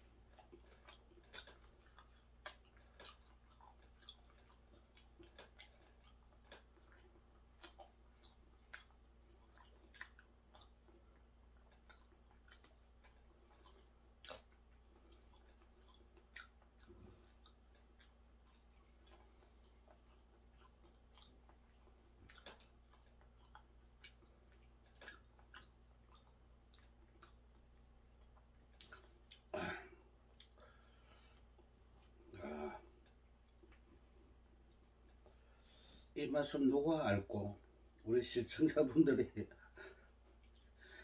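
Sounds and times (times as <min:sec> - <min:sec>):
chewing mouth clicks and smacks: 0:00.0 - 0:29.5, 0:30.2 - 0:32.2, 0:33.0 - 0:36.0, 0:39.9 - 0:41.0
faint low hum: 0:00.0 - 0:41.0.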